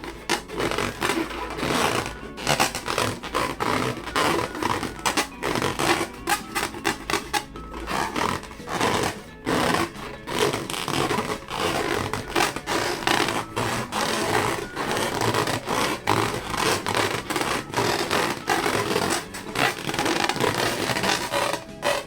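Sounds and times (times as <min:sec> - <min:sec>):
rubber balloons being rubbed: 0:00.0 - 0:22.0.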